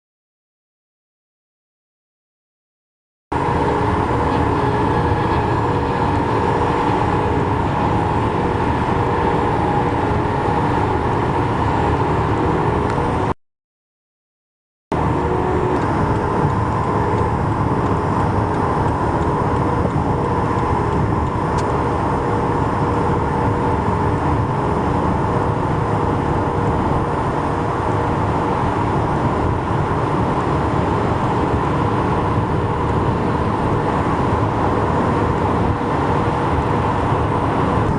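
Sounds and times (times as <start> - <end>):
highway traffic hum: 3.3 - 13.4, 14.9 - 37.9.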